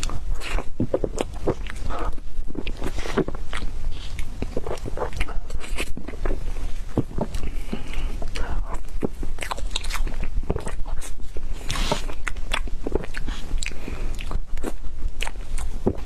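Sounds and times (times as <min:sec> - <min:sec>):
person chewing: 0:00.0 - 0:16.0
steady low hum: 0:00.0 - 0:16.0.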